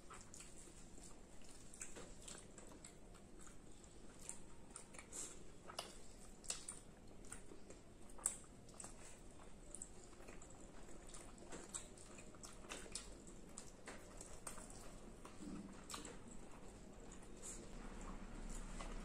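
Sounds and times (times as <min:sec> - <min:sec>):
people chewing: 0:00.0 - 0:19.0.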